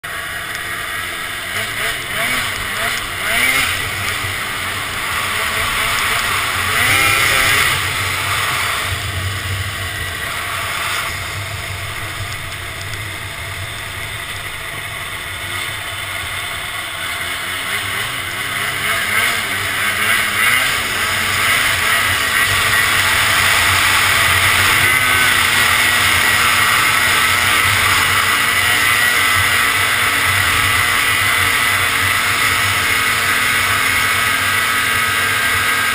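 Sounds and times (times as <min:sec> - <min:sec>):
snowmobile engine running: 0:00.0 - 0:35.9.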